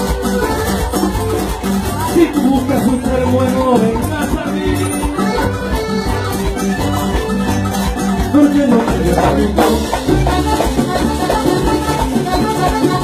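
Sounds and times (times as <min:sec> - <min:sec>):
live band playing loudly: 0:00.0 - 0:13.0.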